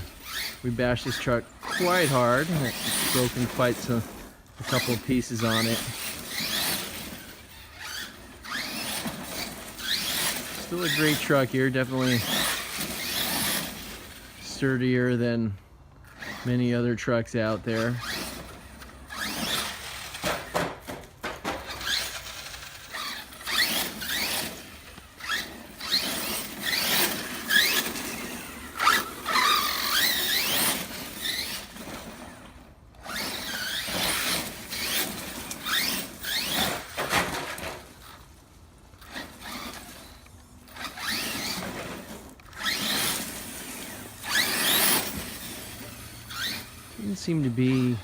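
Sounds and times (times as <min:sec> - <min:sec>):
electric motor whining in bursts: 0:00.0 - 0:15.2, 0:17.7 - 0:48.0
tyres on the ground: 0:00.0 - 0:48.0.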